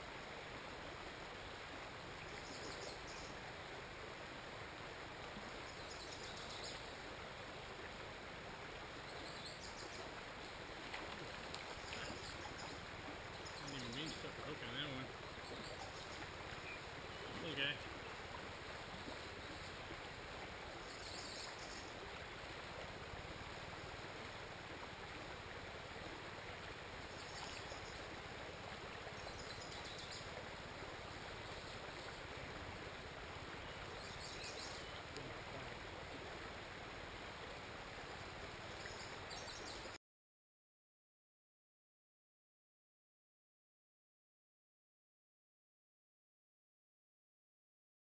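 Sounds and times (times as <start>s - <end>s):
creek water running: 0.0s - 40.0s.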